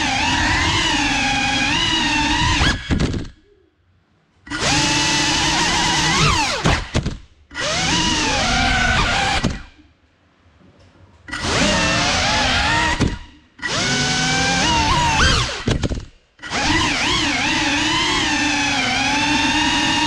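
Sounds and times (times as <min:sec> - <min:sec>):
drone motors and propellers whining: 0:00.0 - 0:03.5, 0:04.4 - 0:09.8, 0:11.3 - 0:20.0.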